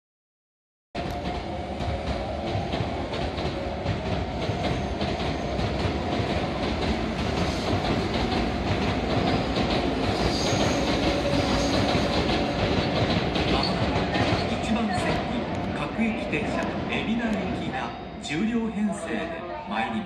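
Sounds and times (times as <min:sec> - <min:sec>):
rail clatter: 0:01.0 - 0:17.8
train rushing noise: 0:01.0 - 0:19.1.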